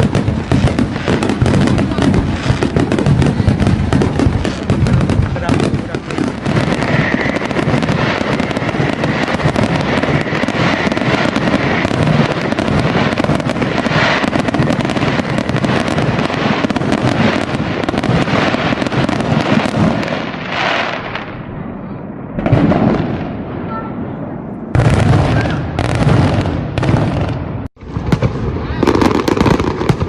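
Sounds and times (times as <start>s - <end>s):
fireworks crackling and banging: 0.0s - 30.0s.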